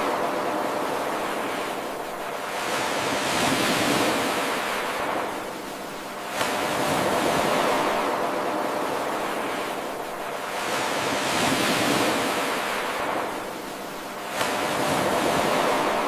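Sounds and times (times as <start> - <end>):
ocean surf washing in: 0.0 - 16.0.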